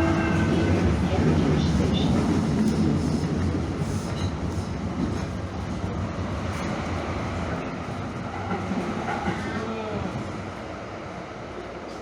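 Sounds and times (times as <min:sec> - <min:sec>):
light-rail car rumble: 0:00.0 - 0:12.0.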